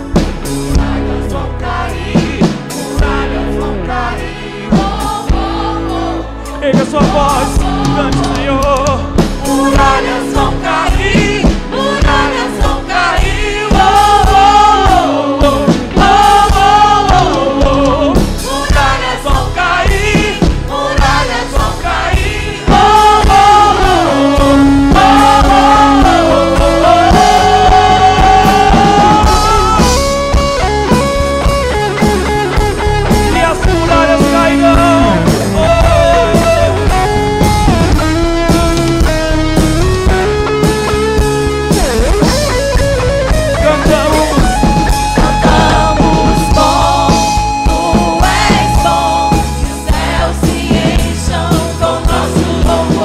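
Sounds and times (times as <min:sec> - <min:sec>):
bass: 0:00.0 - 0:53.0
drums: 0:00.0 - 0:53.0
guitars: 0:00.0 - 0:53.0.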